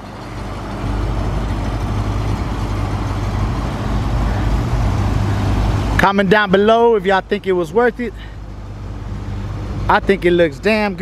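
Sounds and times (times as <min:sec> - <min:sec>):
loud car engine rumbling: 0:00.0 - 0:11.0.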